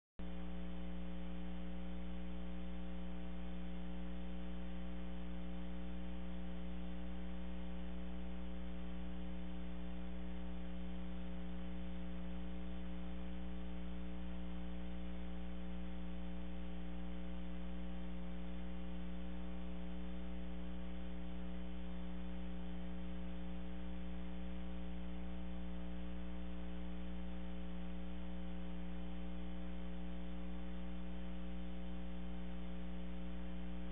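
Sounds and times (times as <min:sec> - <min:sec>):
electrical mains hum: 0:00.2 - 0:33.9.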